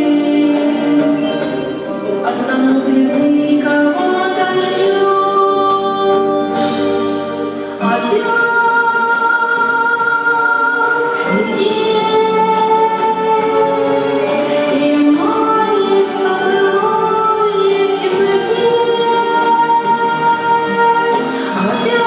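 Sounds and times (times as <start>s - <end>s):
instrumental accompaniment: 0.0s - 22.0s
two women singing a duet: 0.0s - 22.0s.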